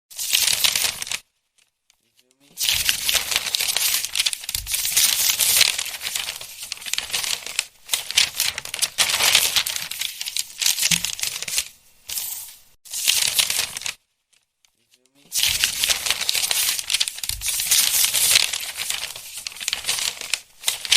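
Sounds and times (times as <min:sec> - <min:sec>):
book pages rustling and flipping: 0:00.2 - 0:20.9.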